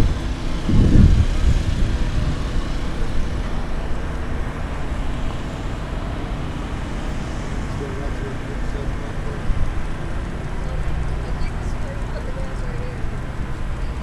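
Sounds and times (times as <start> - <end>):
low outdoor background rumble: 0.0 - 14.0.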